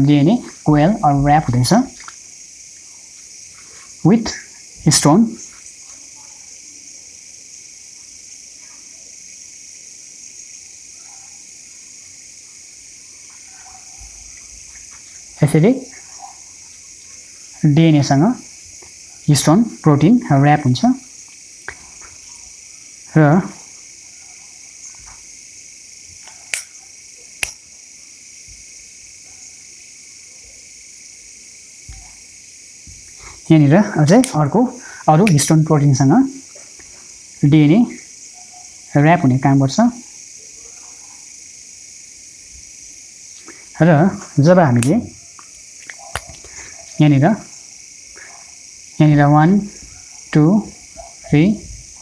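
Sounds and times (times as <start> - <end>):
crickets chirring: 0.0 - 52.0
high-pitched hiss: 0.0 - 52.0.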